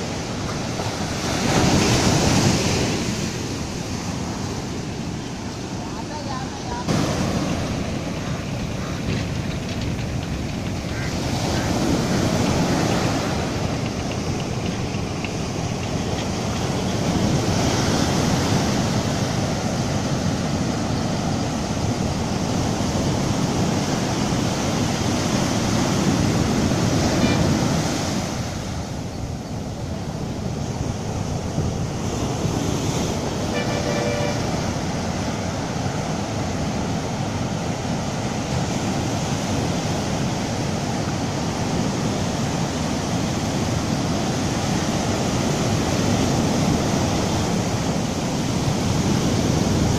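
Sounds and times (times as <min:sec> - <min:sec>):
waves washing on sandy beach: 0:00.0 - 0:49.9.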